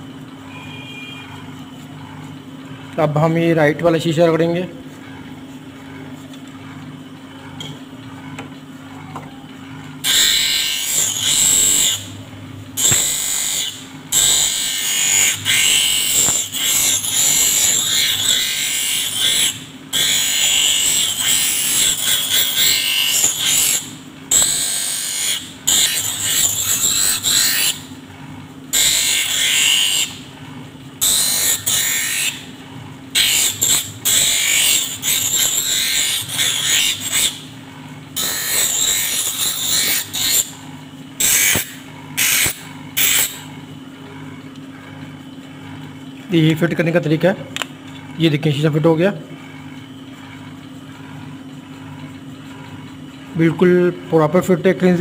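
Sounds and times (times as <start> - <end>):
grinder humming: 0.0 - 55.0.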